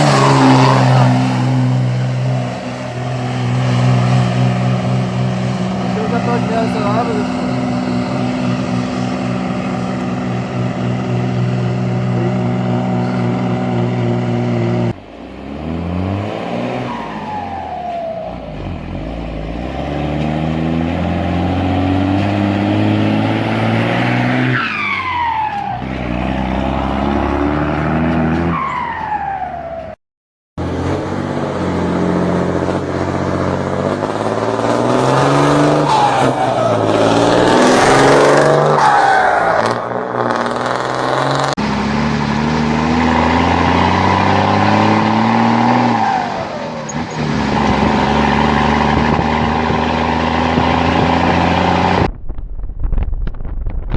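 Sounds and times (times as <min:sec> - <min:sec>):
diesel truck engine accelerating: 0:00.0 - 0:30.0, 0:30.6 - 0:52.1.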